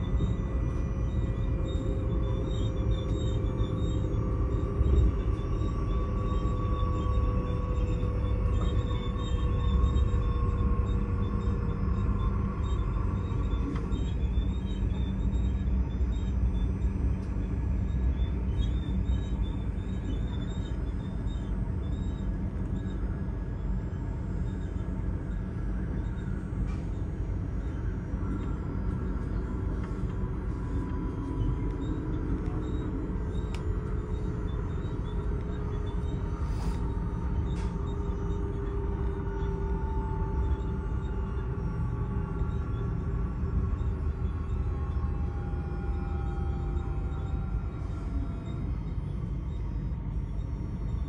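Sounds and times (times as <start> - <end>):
faint whining tones: 0.0 - 51.0.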